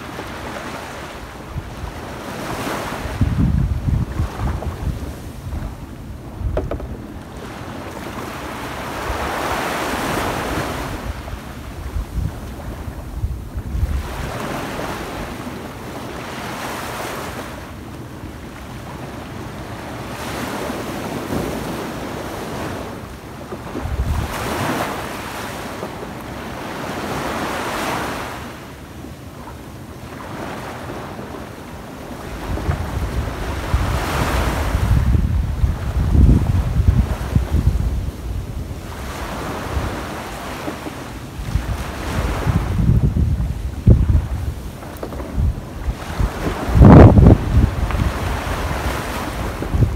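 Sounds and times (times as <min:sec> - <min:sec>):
small waves breaking on sand: 0:00.0 - 0:49.9
wind rumbling on microphone: 0:00.0 - 0:49.9.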